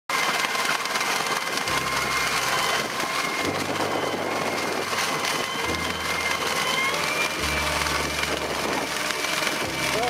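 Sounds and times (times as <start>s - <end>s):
tractor ditch cleaner running: 0.1s - 10.0s.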